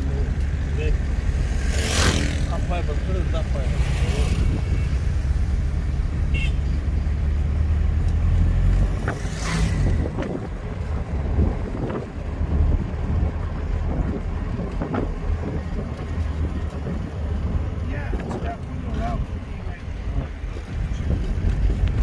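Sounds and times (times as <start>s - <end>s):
vehicle road noise rumble: 0.0s - 22.0s.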